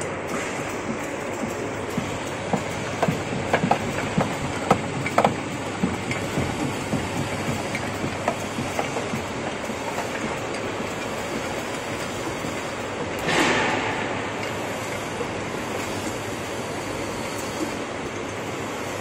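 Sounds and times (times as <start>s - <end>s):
sharp clicks and clacks: 0.0s - 16.2s
pressing machine running: 0.0s - 19.0s.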